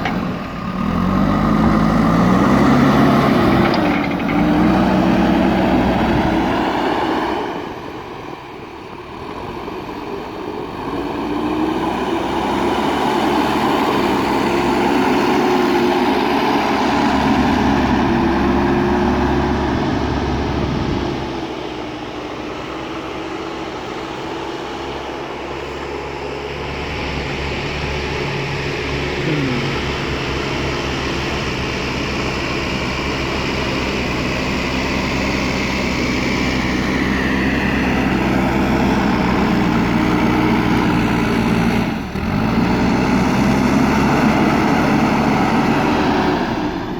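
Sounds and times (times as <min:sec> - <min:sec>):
backhoe diesel engine working: 0:00.0 - 0:46.9.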